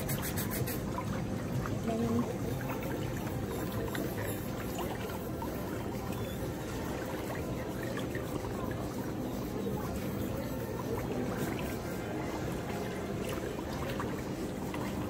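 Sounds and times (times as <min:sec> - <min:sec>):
foot spa jets churning water: 0:00.0 - 0:15.0.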